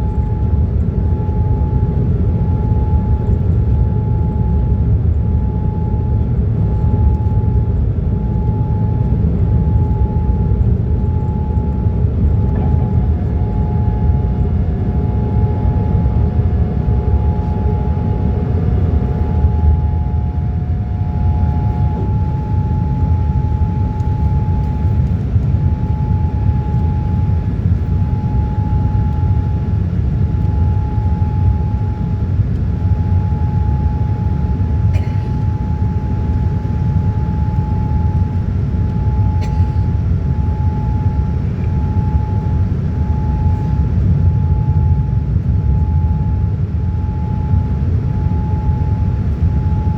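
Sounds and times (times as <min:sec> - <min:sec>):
jet engine rumble in cabin: 0:00.0 - 0:49.9.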